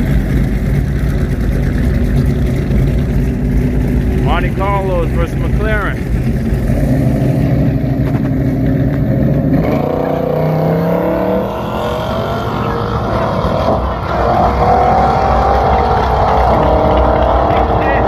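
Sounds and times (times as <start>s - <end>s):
racing car engines accelerating: 0.0s - 18.0s.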